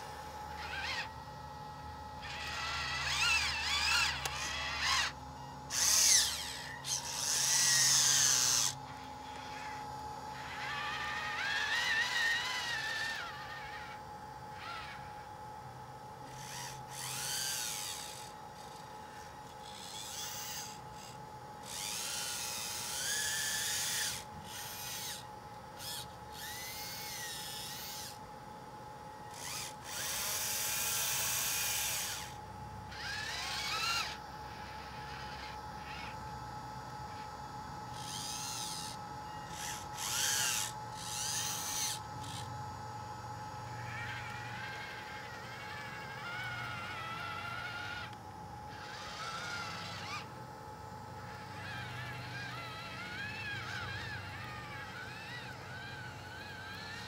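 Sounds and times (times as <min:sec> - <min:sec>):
electric motors whining: 0:00.0 - 0:57.0.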